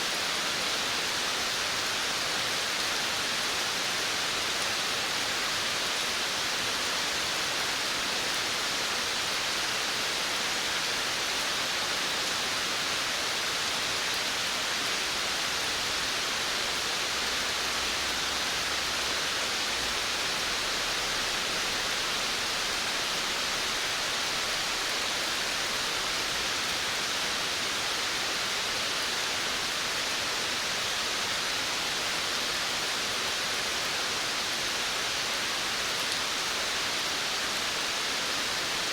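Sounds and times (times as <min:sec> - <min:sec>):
rain falling on a veranda: 0:00.0 - 0:38.9.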